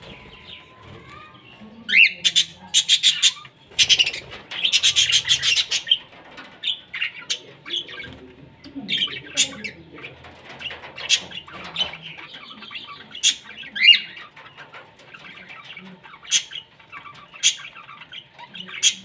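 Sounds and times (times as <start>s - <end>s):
small parrots chirping and chattering: 0.0s - 19.0s.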